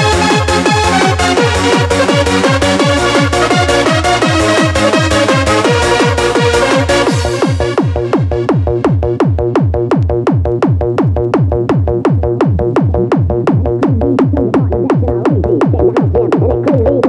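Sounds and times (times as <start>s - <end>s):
fast electronic dance music: 0.0s - 17.0s.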